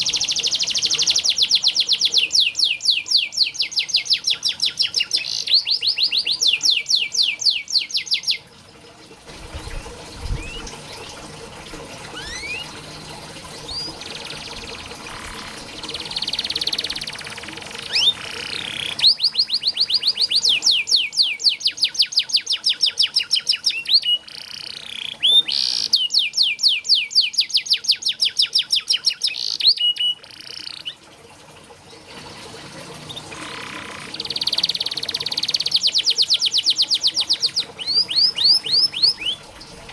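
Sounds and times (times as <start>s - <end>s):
canary singing trills: 0.0s - 8.5s, 9.6s - 11.1s, 12.1s - 31.0s, 33.0s - 39.4s.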